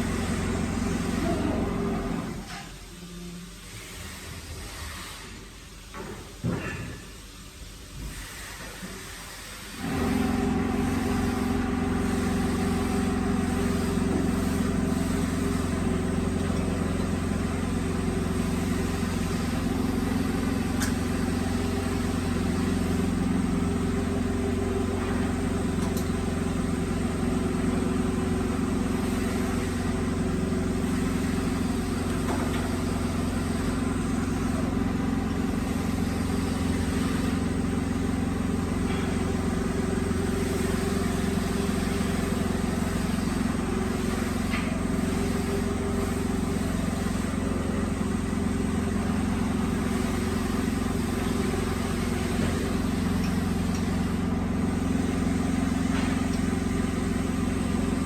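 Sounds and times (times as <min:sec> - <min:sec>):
woodworking machinery droning: 0:00.0 - 0:02.4, 0:09.8 - 0:58.0.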